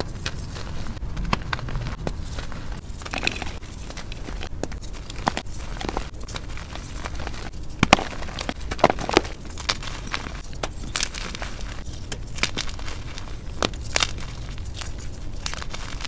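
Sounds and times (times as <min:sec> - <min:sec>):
chalk cracking: 0:00.0 - 0:16.0
chalk crunching in hands: 0:01.6 - 0:16.0.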